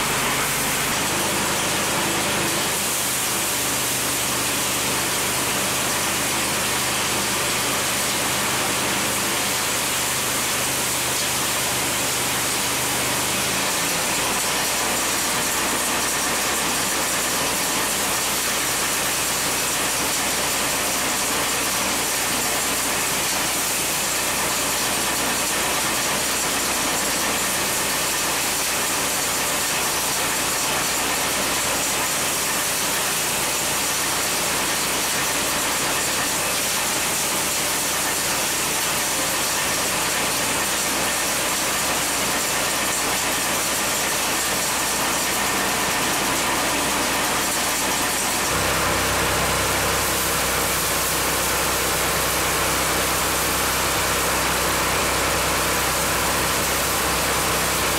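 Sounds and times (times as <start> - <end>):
rushing hiss of threshing: 0.0 - 57.9
small petrol engine running: 0.0 - 57.9.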